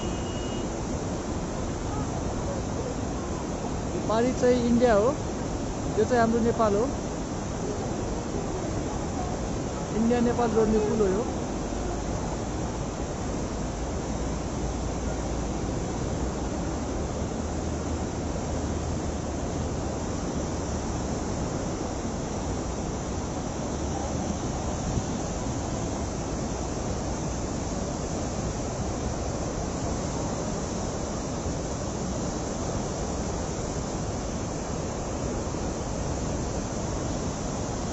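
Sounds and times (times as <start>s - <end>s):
river rushing in flood: 0.0s - 37.9s.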